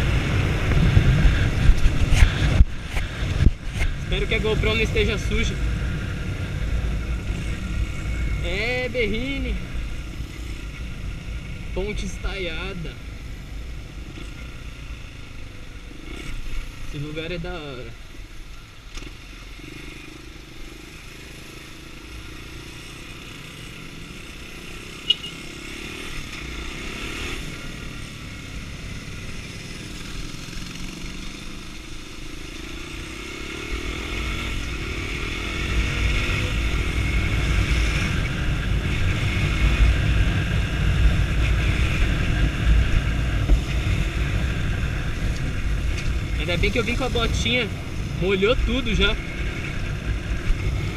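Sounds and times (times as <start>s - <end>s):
motorcycle engine accelerating: 0.0s - 12.7s, 21.6s - 50.9s.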